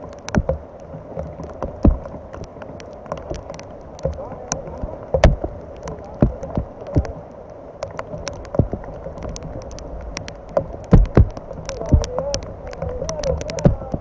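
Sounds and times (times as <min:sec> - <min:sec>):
low thumps: 0:00.0 - 0:07.2, 0:07.8 - 0:14.0
rain hiss: 0:00.0 - 0:14.0
raindrops ticking on camera housing: 0:00.0 - 0:14.0.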